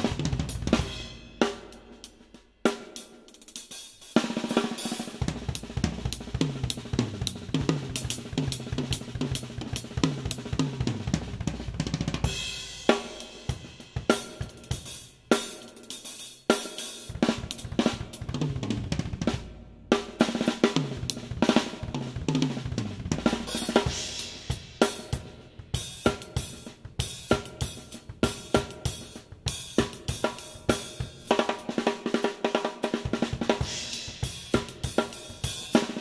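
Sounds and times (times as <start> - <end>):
drum kit being played: 0.0 - 36.0.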